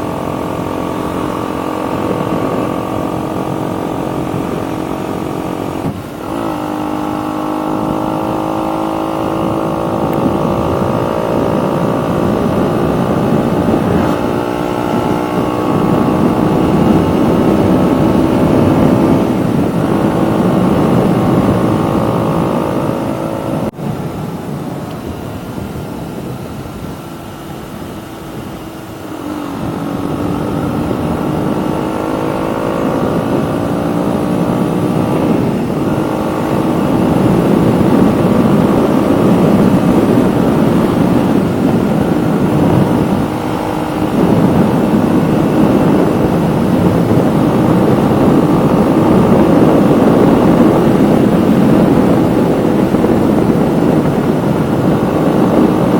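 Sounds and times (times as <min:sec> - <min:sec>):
motorcycle engine riding: 0:00.0 - 0:55.9.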